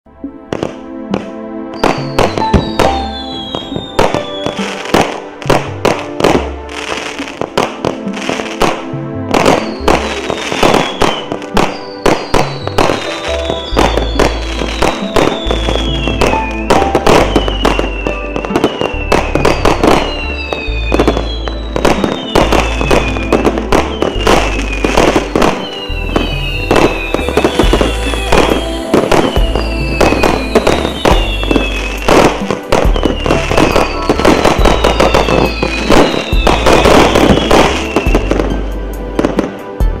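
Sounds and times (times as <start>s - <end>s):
fireworks bangs and bursts: 0.5s - 38.6s
music with heavy bass: 1.8s - 40.0s.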